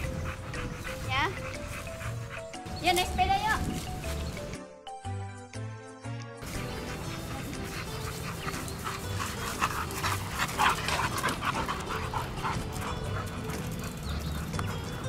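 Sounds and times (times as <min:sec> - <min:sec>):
dogs panting hard: 0:00.0 - 0:04.6, 0:06.4 - 0:15.0
background music: 0:00.0 - 0:15.0.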